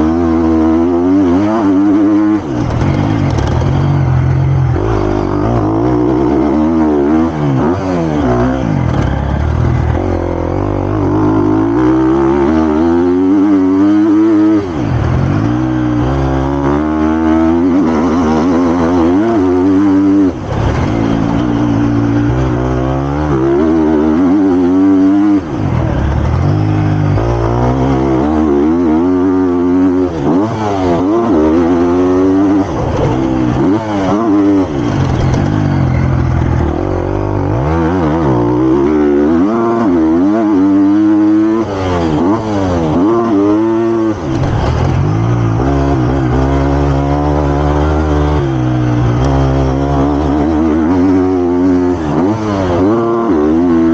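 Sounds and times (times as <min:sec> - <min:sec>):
motocross engine revving: 0:00.0 - 0:53.9.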